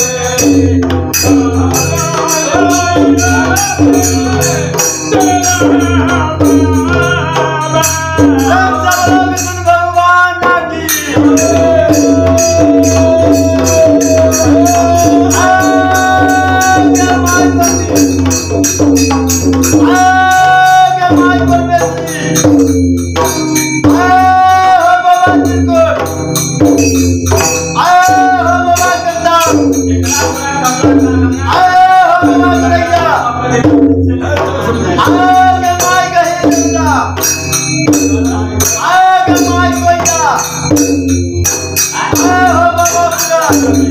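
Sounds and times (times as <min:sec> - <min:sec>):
devotional singing: 0:00.0 - 0:18.8, 0:19.4 - 0:22.5, 0:23.7 - 0:26.6, 0:27.3 - 0:43.9
drum accompaniment: 0:00.0 - 0:43.9
hand cymbals clashing: 0:00.0 - 0:43.9.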